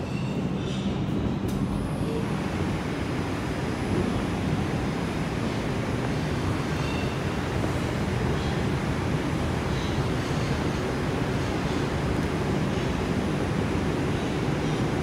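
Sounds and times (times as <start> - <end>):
subway car rumbling through tunnel: 0.0 - 15.0.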